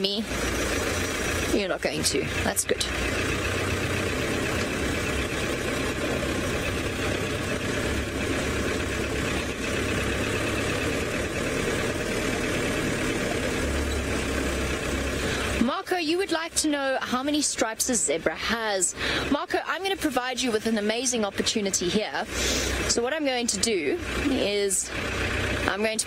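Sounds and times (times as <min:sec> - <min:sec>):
vehicle engine driving slowly: 0:00.0 - 0:26.0.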